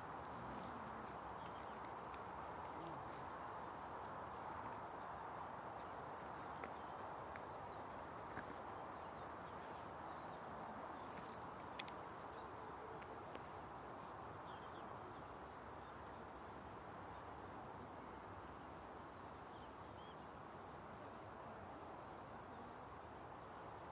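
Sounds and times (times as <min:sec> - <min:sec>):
soft steady hiss: 0:00.0 - 0:23.9.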